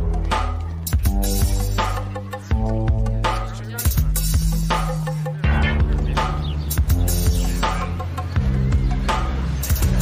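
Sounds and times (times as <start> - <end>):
deep bass line: 0.0 - 10.0
steady drum beat: 0.0 - 10.0.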